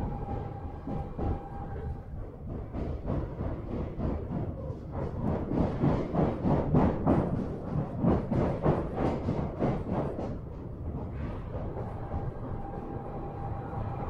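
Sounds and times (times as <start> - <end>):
train wheels clattering on rail: 0.0 - 14.0.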